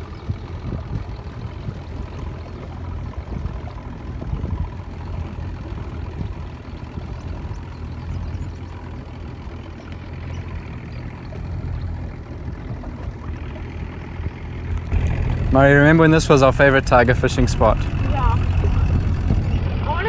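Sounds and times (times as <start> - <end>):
outboard motor humming: 0.0 - 20.0
water against hull: 0.0 - 20.0.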